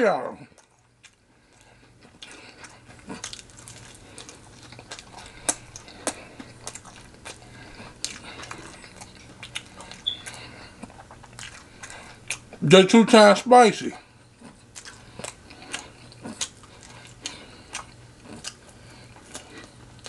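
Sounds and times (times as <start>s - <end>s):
chewing fried chicken: 0.0s - 20.0s
faint low hum: 0.0s - 20.0s.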